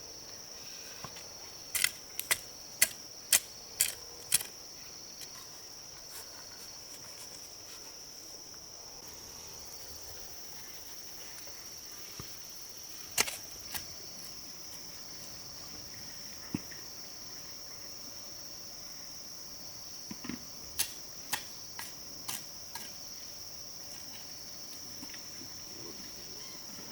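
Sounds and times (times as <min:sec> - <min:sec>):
high-pitched insect chorus: 0:00.0 - 0:26.9.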